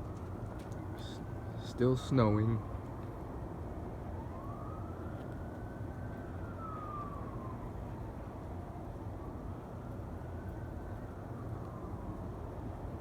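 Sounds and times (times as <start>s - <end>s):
distant siren wailing: 0.0s - 13.0s.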